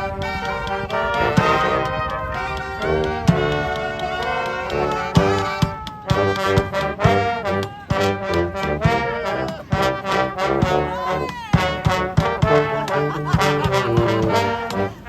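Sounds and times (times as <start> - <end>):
brass band playing: 0.0 - 15.0
percussive beat: 0.4 - 15.0.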